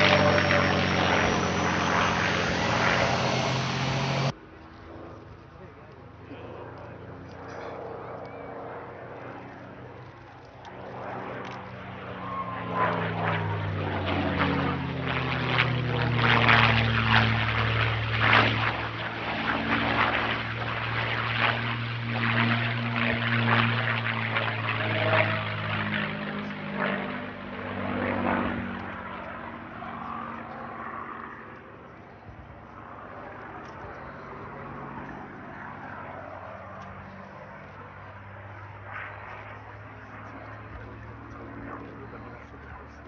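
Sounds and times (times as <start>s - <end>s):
propeller plane flying past: 0.0s - 43.0s.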